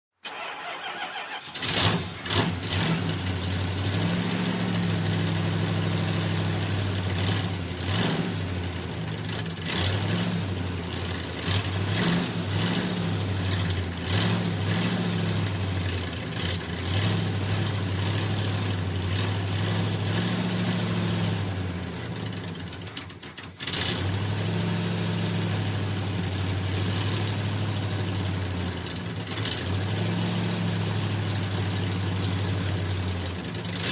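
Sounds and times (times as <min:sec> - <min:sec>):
truck engine cranking and starting: 0:00.1 - 0:33.9.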